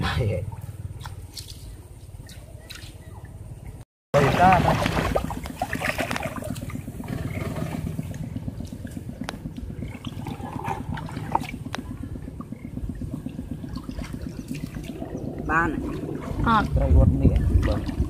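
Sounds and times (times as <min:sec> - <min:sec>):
water sloshing and swishing: 0:00.2 - 0:18.0
low rumble: 0:03.3 - 0:18.0.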